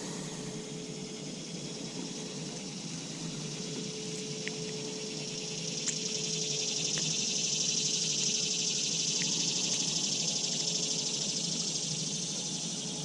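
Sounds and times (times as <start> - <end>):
high-pitched insect chorus buzzing: 0.0 - 13.0.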